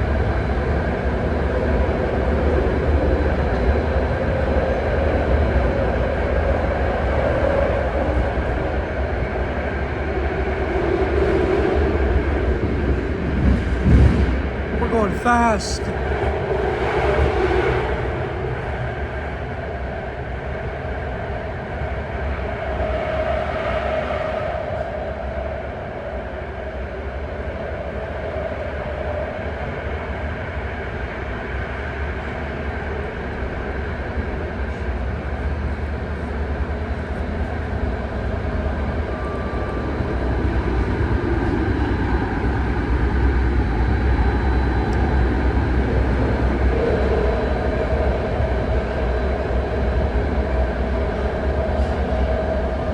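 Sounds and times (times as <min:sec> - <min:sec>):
train rumble with track noise: 0:00.0 - 0:14.8, 0:16.1 - 0:52.9.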